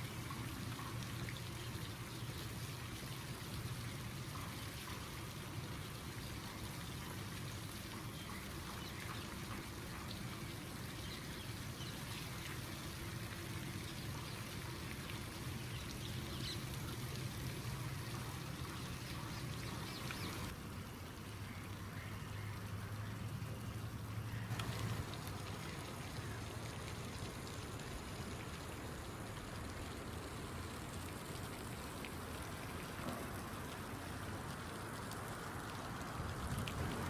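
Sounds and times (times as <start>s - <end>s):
water trickling and splashing: 0.0s - 37.0s.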